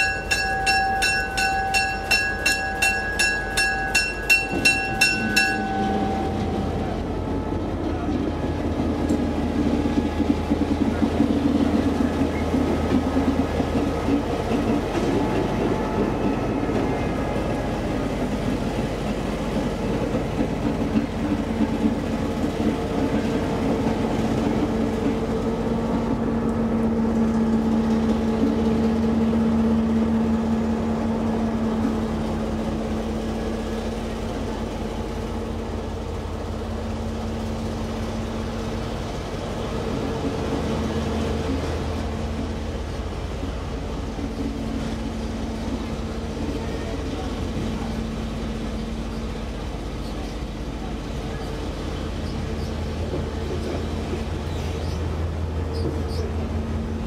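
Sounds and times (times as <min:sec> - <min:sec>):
diesel locomotive engine hum: 0:00.0 - 0:57.0
train cars rumbling on rails: 0:00.0 - 0:57.0.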